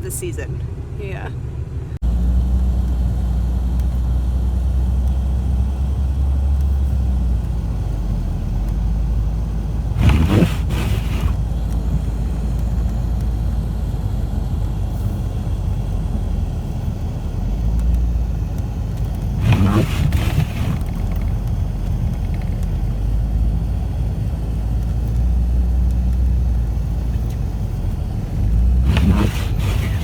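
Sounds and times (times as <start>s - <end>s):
low car engine drone: 0.0s - 30.0s.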